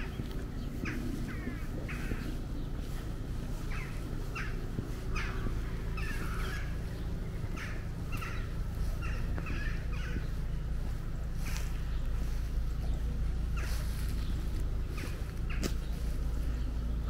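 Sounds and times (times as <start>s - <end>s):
crows cawing: 0.0s - 16.8s
steady low rumble: 0.0s - 17.0s.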